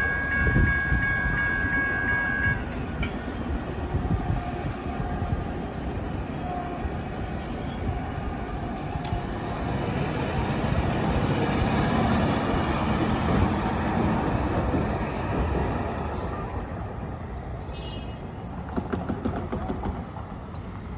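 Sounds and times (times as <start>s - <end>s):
train wheels rumbling on rails: 2.5s - 17.6s, 18.5s - 20.5s.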